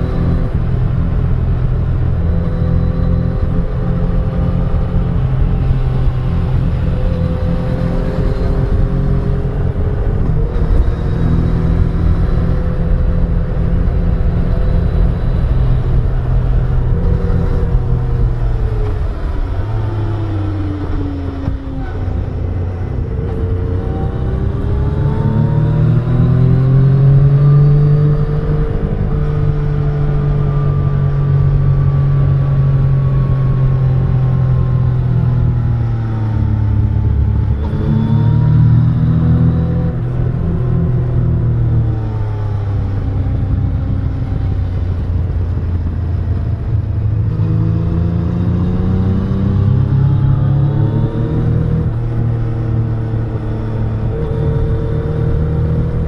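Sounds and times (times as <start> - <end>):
motorcycle engine: 0.0 - 56.0
wind and road noise: 0.0 - 56.0.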